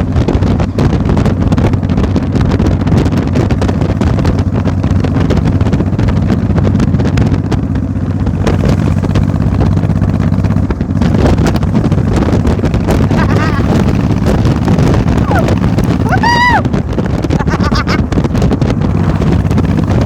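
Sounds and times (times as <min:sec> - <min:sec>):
engine running: 0:00.0 - 0:20.0
wind buffeting microphone: 0:00.0 - 0:20.0.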